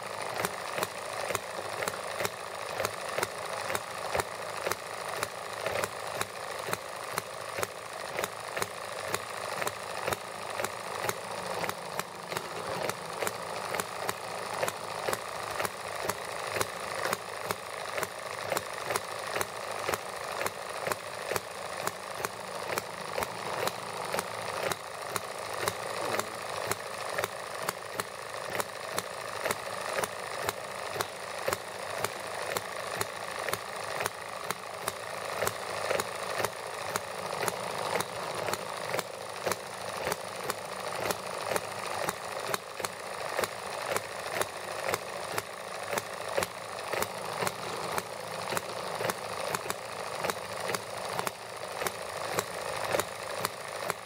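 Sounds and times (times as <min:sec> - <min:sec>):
small model engine popping: 0:00.0 - 0:54.0.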